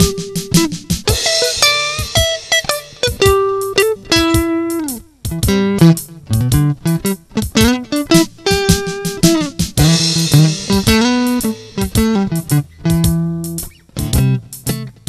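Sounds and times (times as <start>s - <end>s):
drum machine beat: 0.0s - 15.0s
electric guitar blues lead: 0.0s - 15.0s.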